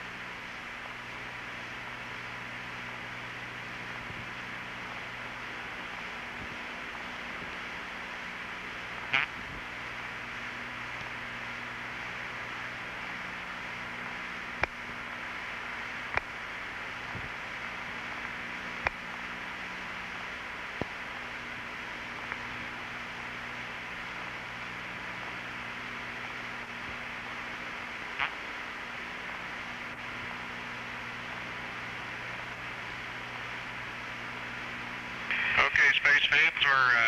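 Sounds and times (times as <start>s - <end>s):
low hum: 0.0s - 37.0s
radio hiss and static: 0.0s - 37.0s.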